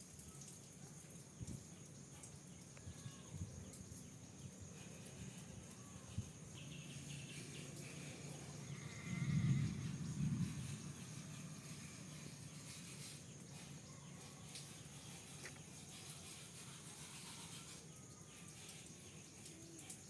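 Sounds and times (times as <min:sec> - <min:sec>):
faint background noise: 0:00.0 - 0:20.0.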